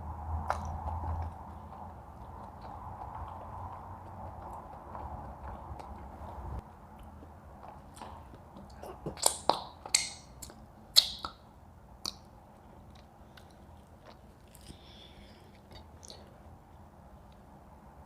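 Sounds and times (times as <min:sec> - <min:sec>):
person chewing: 0:00.3 - 0:10.6, 0:12.0 - 0:16.4.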